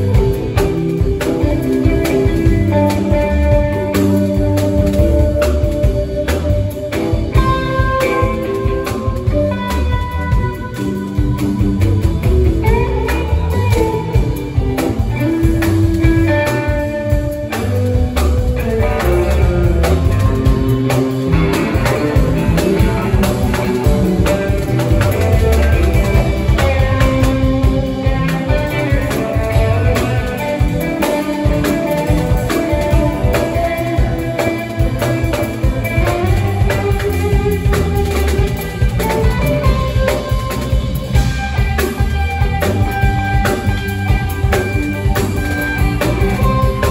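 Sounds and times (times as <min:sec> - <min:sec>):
drum kit steady beat: 0:00.0 - 0:46.9
electric guitars lead lines: 0:00.0 - 0:46.9.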